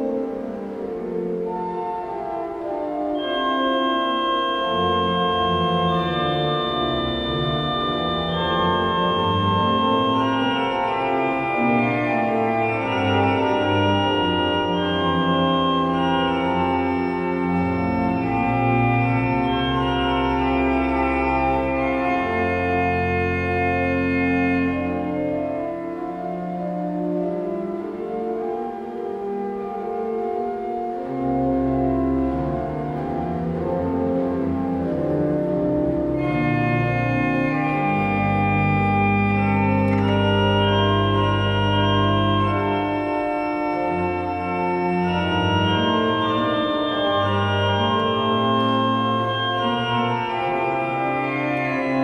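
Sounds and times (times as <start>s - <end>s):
church organ playing chords: 0.0s - 52.0s.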